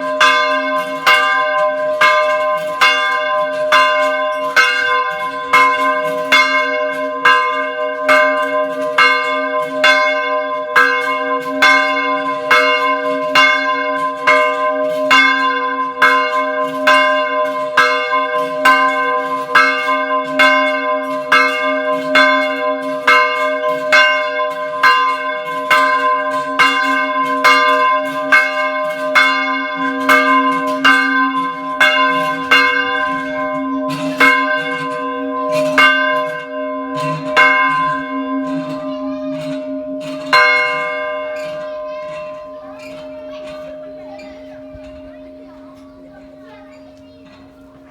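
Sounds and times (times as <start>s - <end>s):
small church bell pealing: 0.0s - 47.9s.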